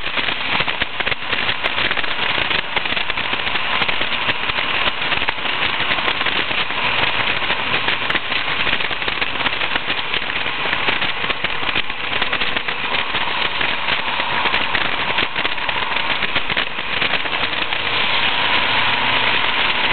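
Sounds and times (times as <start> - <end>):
faint car engine running: 0.0 - 19.9
wind buffeting microphone: 0.0 - 19.9.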